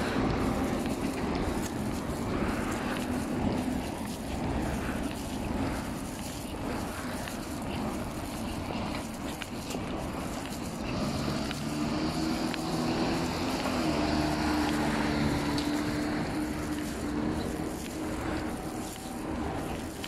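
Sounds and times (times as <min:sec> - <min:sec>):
background traffic: 0:00.0 - 0:20.0
motor vehicle engine hum: 0:00.0 - 0:20.0.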